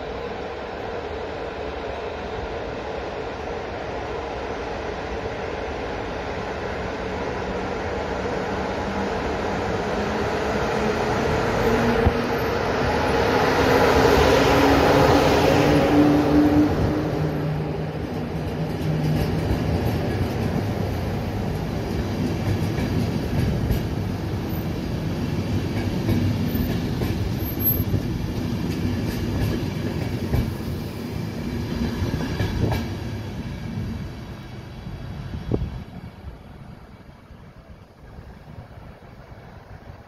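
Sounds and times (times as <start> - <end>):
electric locomotive droning: 0.0 - 40.0
train wheels rumbling on rails: 0.0 - 40.0.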